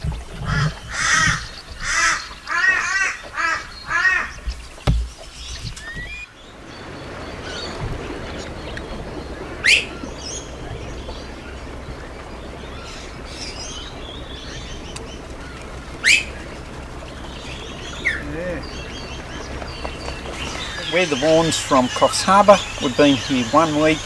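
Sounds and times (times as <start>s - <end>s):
wild birds chirping: 0.0s - 24.0s
steady background hiss: 3.5s - 24.0s.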